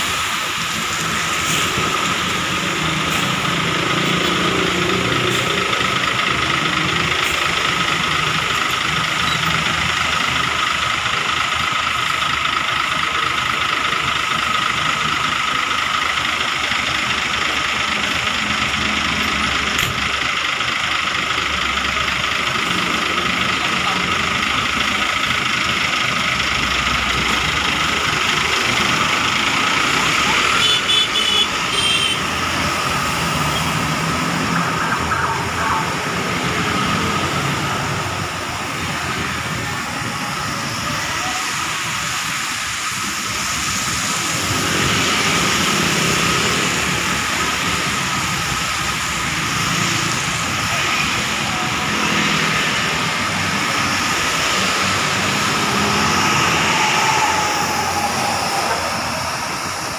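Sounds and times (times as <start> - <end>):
traffic on a wet road: 0.0 - 59.9.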